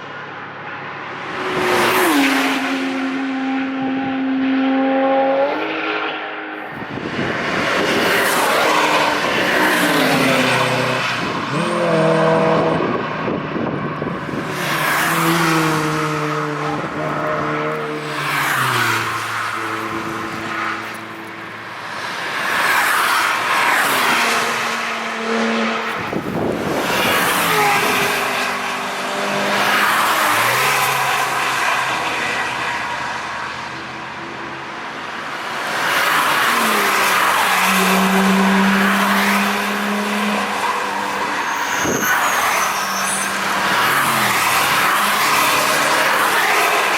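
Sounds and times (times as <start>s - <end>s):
cars passing at speed: 0.0s - 46.9s.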